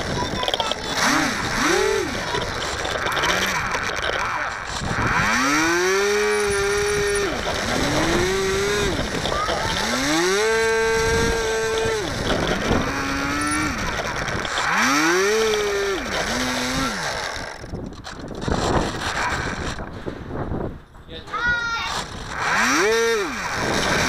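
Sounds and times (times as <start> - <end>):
electric motor and propeller whining: 0.0 - 20.7, 21.6 - 24.0.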